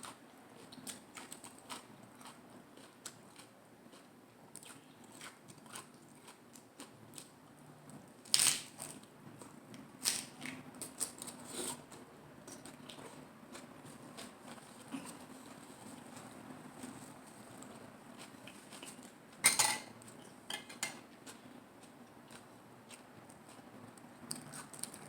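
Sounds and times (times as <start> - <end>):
crackly chewing: 0.0 - 19.4, 21.0 - 25.0.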